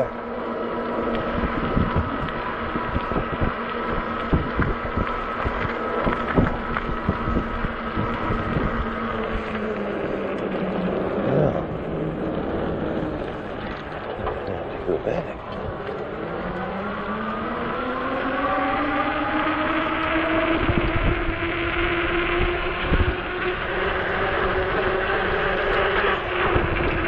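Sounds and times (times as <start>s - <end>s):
bike rattling over bumps: 0.0s - 27.0s
electric motor whine: 0.0s - 27.0s
tyre and road noise: 0.0s - 27.0s.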